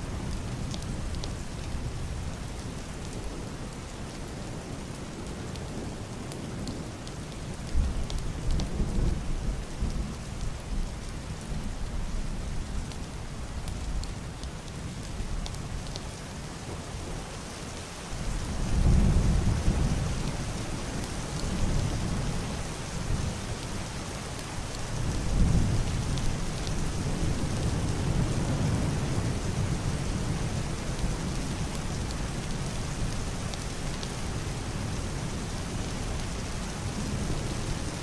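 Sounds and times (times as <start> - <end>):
heavy rain on roof and window: 0.0 - 38.0.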